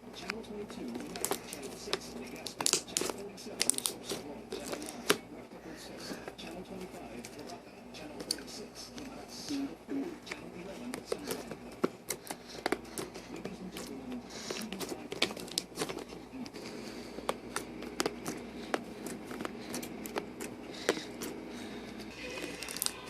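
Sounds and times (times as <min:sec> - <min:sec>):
slime squishing: 0:00.2 - 0:23.0.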